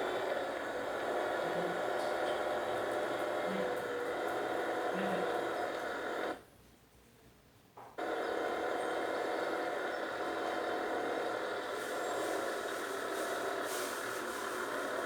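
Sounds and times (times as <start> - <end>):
machine engine running: 0.0 - 6.4, 8.0 - 15.0.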